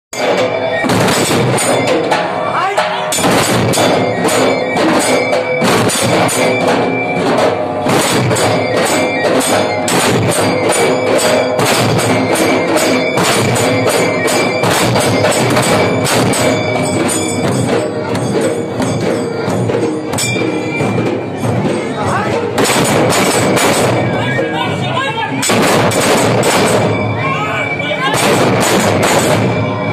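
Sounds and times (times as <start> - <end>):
drums beaten in unison: 0.1 - 29.9
metallic ringing: 0.2 - 29.9.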